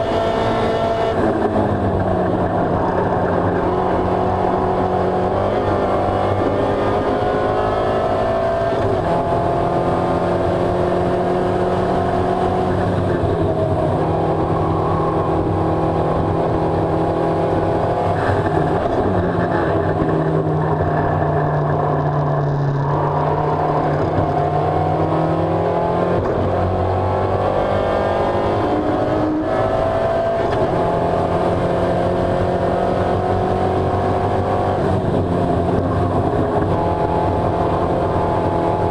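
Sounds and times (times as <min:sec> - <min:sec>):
racing car engine accelerating: 0:00.0 - 0:38.9.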